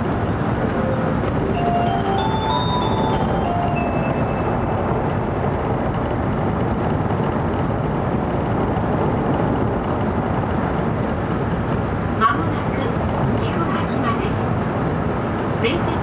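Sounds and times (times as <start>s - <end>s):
train cabin rush: 0.0s - 16.0s.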